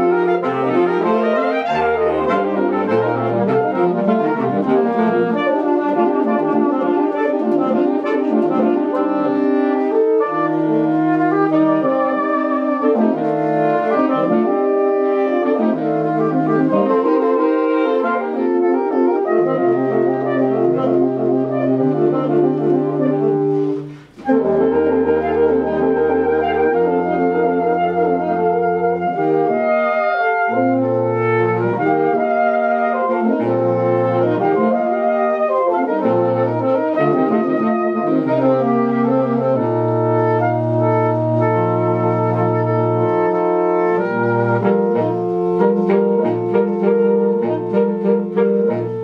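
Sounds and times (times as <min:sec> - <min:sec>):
saxophone quartet playing: 0:00.0 - 0:49.0.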